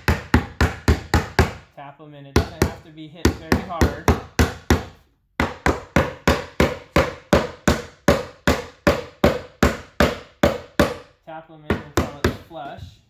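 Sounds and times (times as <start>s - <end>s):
rubber mallet tapping wood panel: 0.0s - 1.7s, 2.4s - 11.1s, 11.7s - 12.8s.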